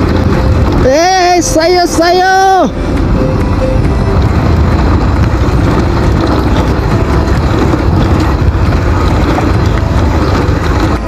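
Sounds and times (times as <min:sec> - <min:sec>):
motorcycle engine running: 0:00.0 - 0:11.0
road noise: 0:00.0 - 0:11.0
wind noise on microphone: 0:00.0 - 0:11.0.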